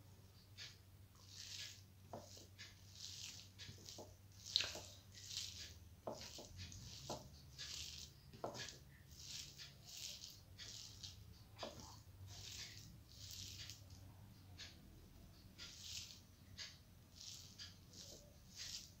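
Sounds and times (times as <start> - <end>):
fingers squishing rice: 0.0 - 19.0.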